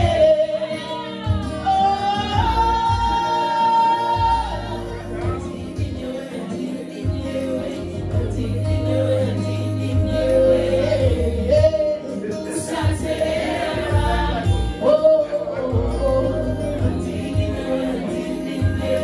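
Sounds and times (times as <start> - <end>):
strummed acoustic guitar: 0.0 - 19.0
woman singing into microphone: 0.0 - 19.0.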